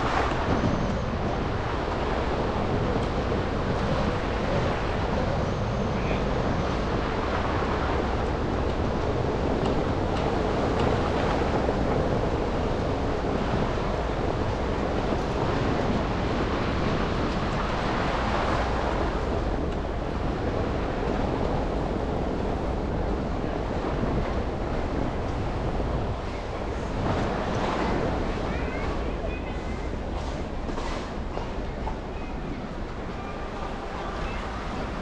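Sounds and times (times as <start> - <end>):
engine and street rumble: 0.0 - 35.0.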